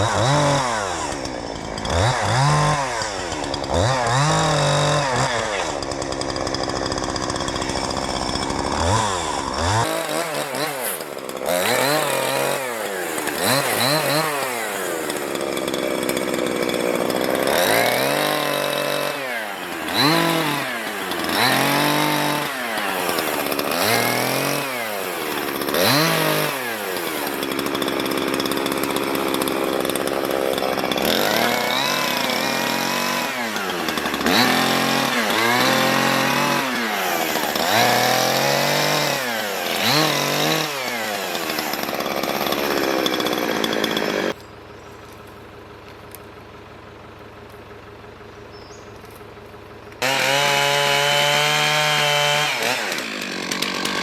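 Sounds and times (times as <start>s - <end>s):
chainsaw revving: 0.0s - 44.5s, 49.9s - 54.0s.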